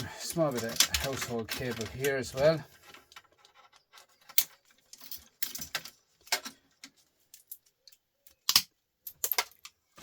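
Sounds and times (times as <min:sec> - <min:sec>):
small hard parts clattering: 0:00.0 - 0:10.0.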